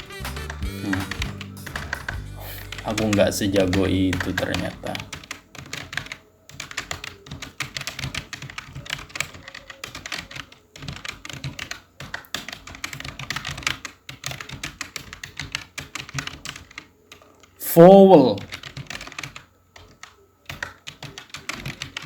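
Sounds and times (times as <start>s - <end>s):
fast keyboard typing: 0.0s - 17.6s, 18.4s - 22.0s.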